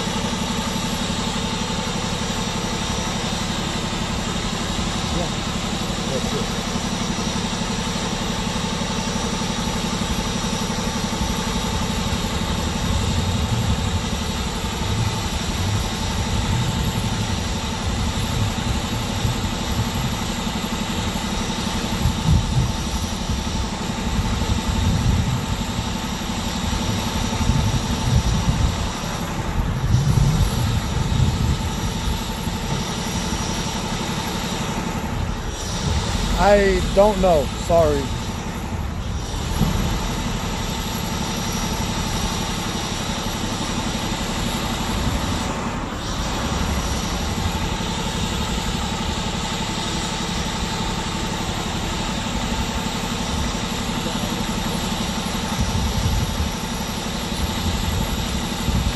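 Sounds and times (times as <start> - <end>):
vehicle engine idling: 0.0 - 58.7.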